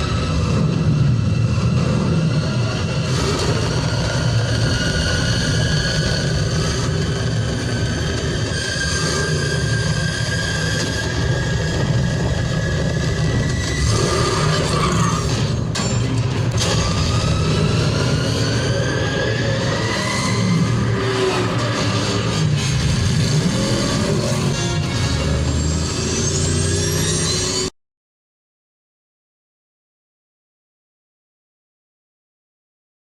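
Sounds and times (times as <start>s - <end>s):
heavy engine rumble with whine: 0.0s - 27.7s.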